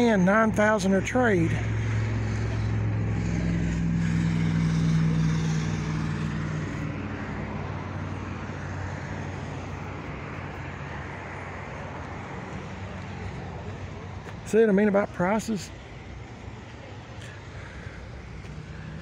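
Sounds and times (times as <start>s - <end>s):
traffic noise: 0.0s - 19.0s
vehicle engine running: 0.0s - 19.0s.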